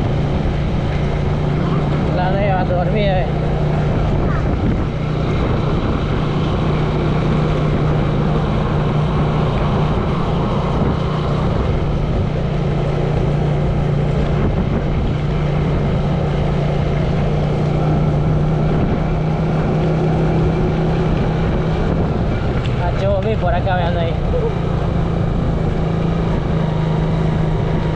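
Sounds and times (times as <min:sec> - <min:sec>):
small motorcycle engine running: 0:00.0 - 0:27.9
wind and road noise: 0:00.0 - 0:27.9.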